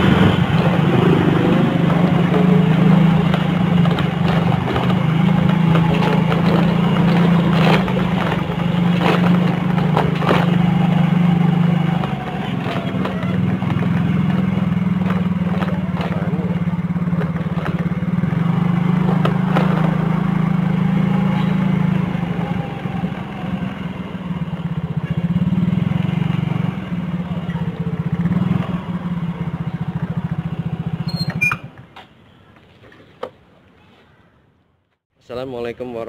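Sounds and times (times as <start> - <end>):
motorcycle engine running: 0.0 - 31.7.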